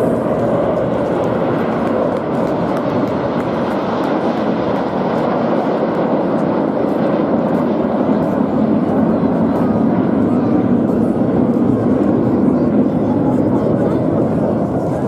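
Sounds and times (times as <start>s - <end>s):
jet aircraft flying by: 0.0s - 15.0s.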